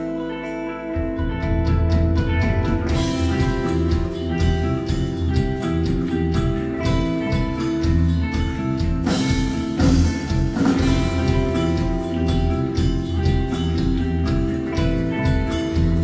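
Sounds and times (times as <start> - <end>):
sustained electric guitar notes: 0.0 - 16.0
fast drum beat: 2.2 - 16.0.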